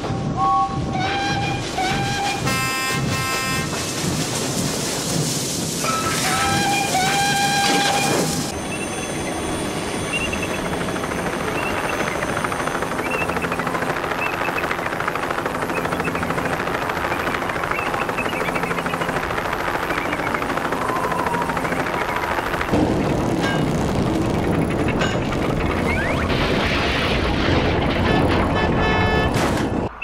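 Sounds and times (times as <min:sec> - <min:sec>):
helicopter rotor blades chopping: 0:01.0 - 0:29.2.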